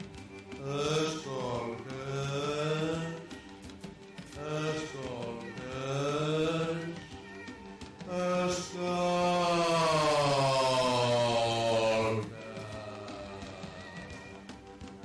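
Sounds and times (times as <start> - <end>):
wordless vocal chanting: 0.0 - 14.8.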